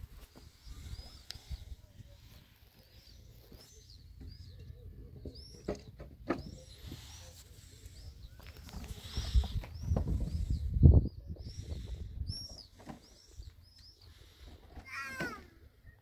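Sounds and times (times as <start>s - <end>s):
songbird chirping: 0.3s - 15.2s.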